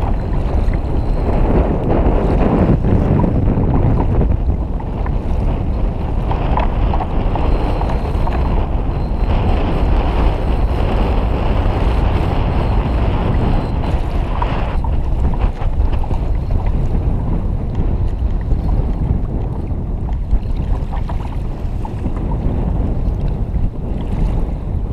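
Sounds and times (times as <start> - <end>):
water washing against hull: 0.0 - 24.9
wind buffeting microphone: 0.0 - 24.9.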